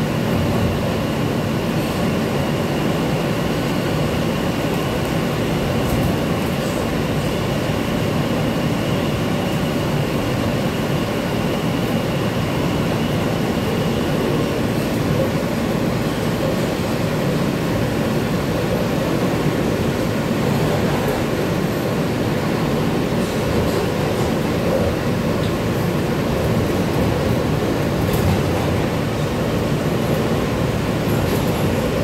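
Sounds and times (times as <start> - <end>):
subway car wheels rumbling: 0.0 - 32.0.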